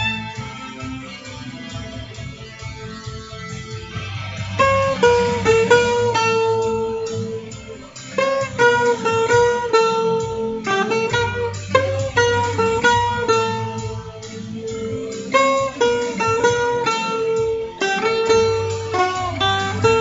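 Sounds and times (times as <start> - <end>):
backing track: 0.0 - 20.0
guitar lead melody: 0.0 - 20.0.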